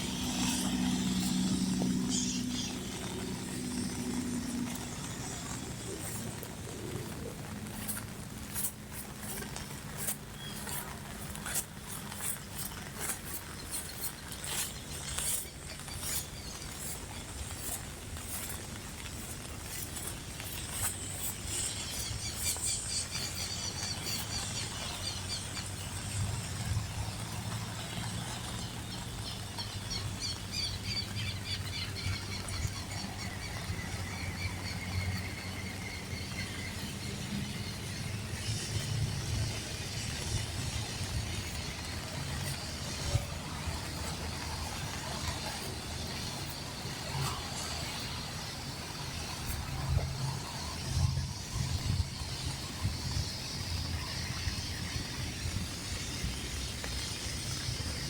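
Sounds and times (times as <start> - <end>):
birds chirping: 0.0 - 58.0
rain pattering: 0.0 - 58.0.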